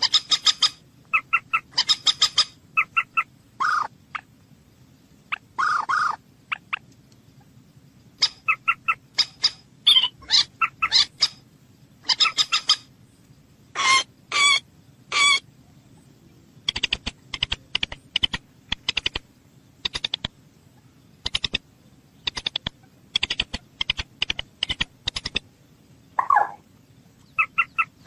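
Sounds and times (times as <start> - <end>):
moorhen calling: 0.0 - 4.3, 5.3 - 7.5, 8.2 - 11.4, 12.0 - 12.9, 13.7 - 25.5, 26.1 - 28.0.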